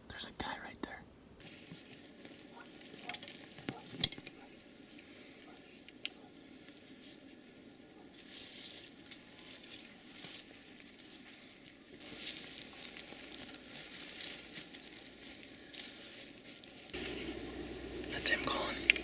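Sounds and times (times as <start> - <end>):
rustling close to microphone: 1.4 - 17.4.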